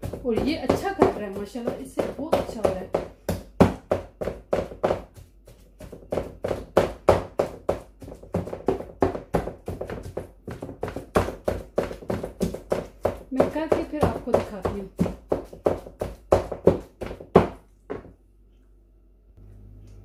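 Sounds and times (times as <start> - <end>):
wooden pestle pounding in metal pan: 0.0 - 18.1.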